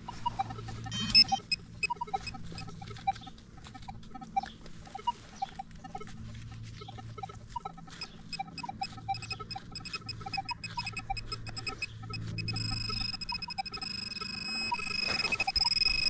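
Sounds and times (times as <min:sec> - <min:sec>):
metal detector beeping: 0:00.0 - 0:16.0
scratchy clicks: 0:00.0 - 0:16.0.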